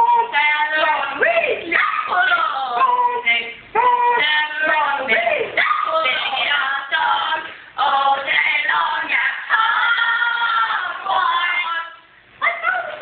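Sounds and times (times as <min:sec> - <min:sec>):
young female voices singing: 0:00.0 - 0:13.0.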